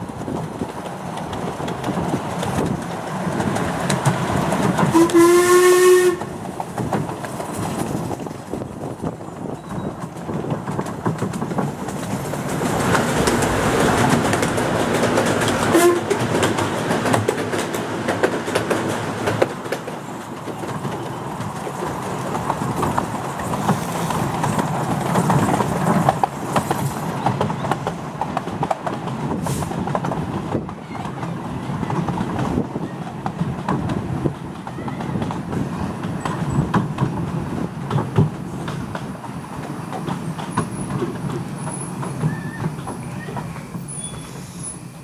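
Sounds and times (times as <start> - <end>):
train wheels clattering on track: 0.0 - 45.0.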